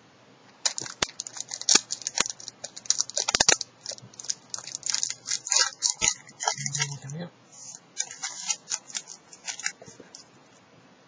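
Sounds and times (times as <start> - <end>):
foil wrapper crinkling: 0.6 - 7.0, 7.6 - 10.4.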